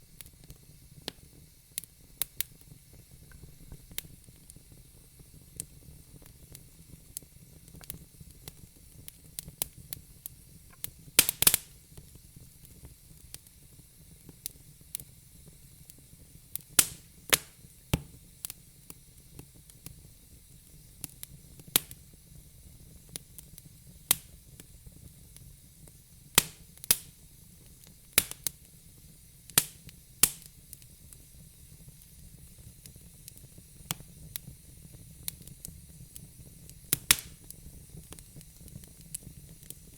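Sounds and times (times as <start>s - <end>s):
faint steady hiss: 0.0s - 39.9s
wood fire crackling and popping: 0.0s - 39.9s.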